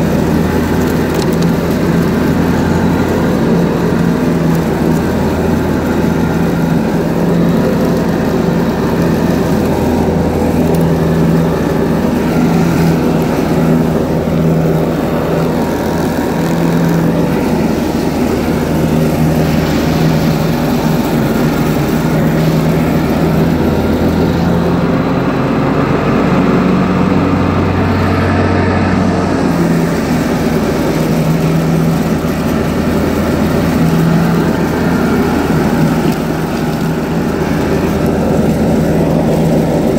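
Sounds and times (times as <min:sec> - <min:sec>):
lawn tractor mowing grass: 0:00.0 - 0:39.9.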